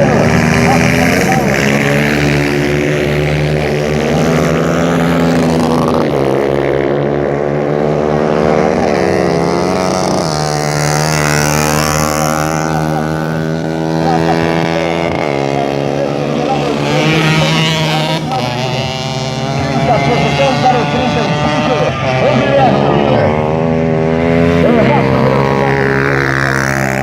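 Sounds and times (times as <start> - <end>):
racing motorcycles revving: 0.0 - 27.0.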